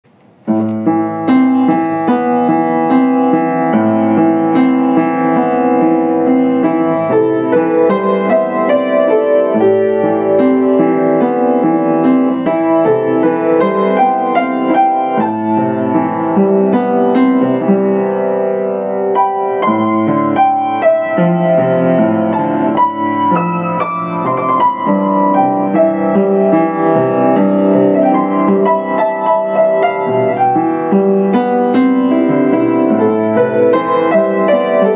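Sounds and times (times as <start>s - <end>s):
upright piano playing: 0.3s - 34.9s.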